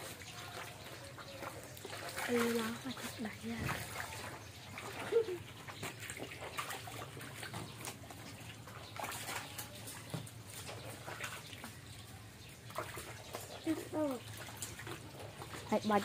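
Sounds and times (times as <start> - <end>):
shallow water splashing: 0.0 - 16.0.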